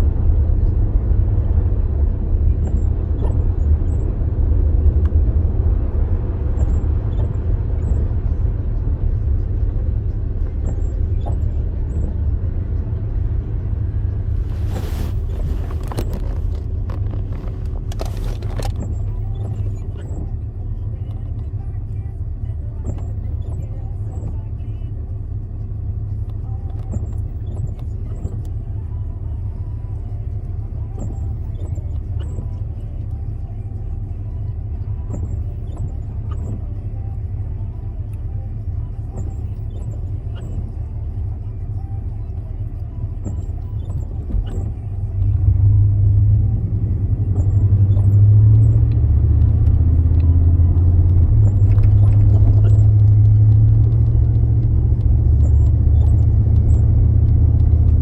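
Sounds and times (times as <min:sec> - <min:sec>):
car cabin engine and tyre rumble: 0:00.0 - 0:58.0.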